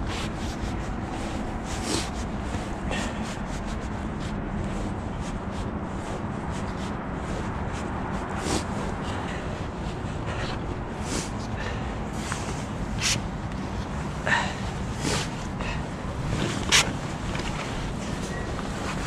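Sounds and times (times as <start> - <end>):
clothing rustling and shuffling: 0.0 - 19.0.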